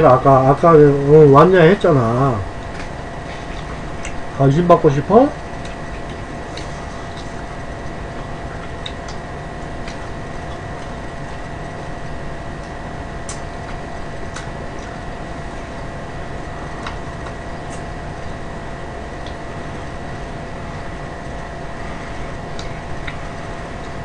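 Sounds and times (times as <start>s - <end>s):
background hum with thin tones: 0.0s - 24.0s.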